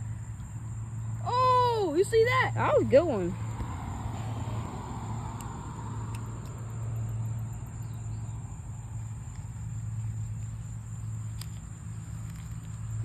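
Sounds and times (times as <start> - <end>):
high insect trill: 0.0 - 13.0
low hum of distant traffic: 0.0 - 13.0.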